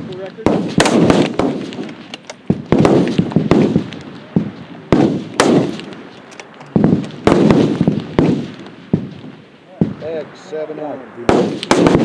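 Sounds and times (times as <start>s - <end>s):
rifle shots with rolling echo: 0.0s - 12.0s.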